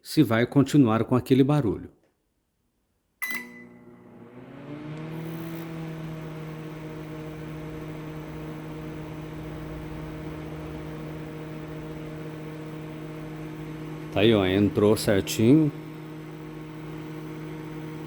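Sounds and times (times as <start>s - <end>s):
microwave oven humming: 3.2s - 18.0s.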